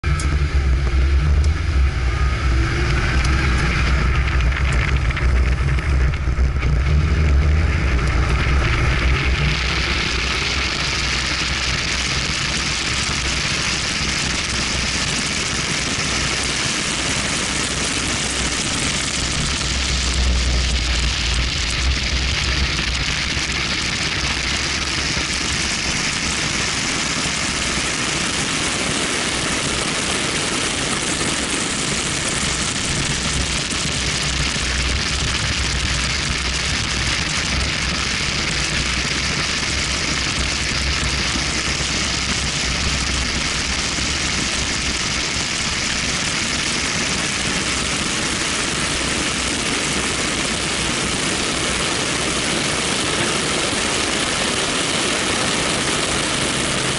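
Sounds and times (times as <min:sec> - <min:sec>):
car engine running: 0:00.0 - 0:56.9
tyre and road noise: 0:00.0 - 0:56.9
wind roaring over camera: 0:00.0 - 0:56.9.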